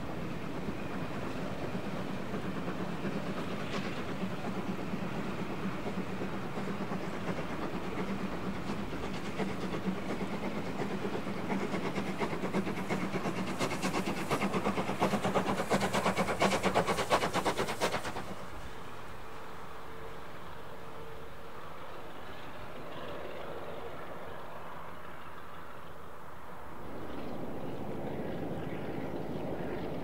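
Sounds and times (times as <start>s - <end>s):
train approaching at speed: 0.0s - 30.0s.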